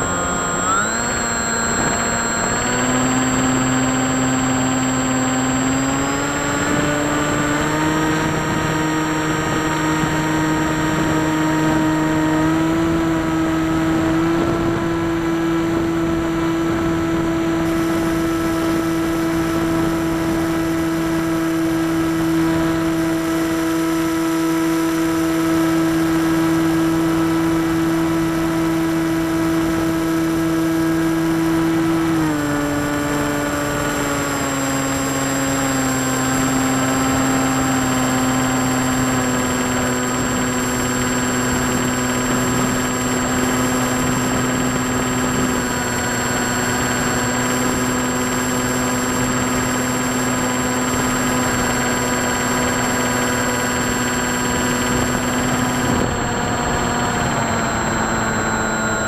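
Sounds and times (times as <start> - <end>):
model airplane motor whining: 0.0 - 59.0.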